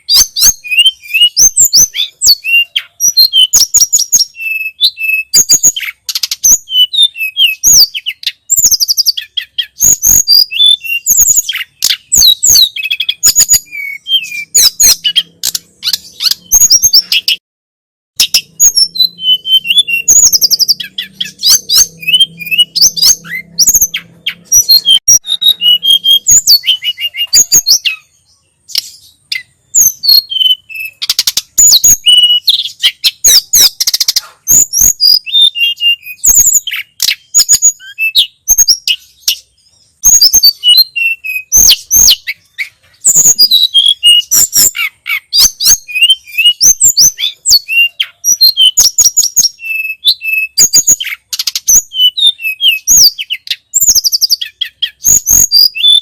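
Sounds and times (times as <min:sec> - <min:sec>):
songbird chirping and whistling: 0:00.0 - 0:17.4, 0:18.2 - 0:56.0.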